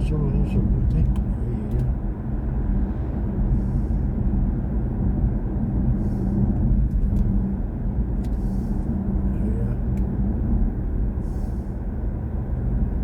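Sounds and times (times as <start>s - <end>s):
road and tyre rumble: 0.0s - 13.0s
low hum: 1.8s - 13.0s.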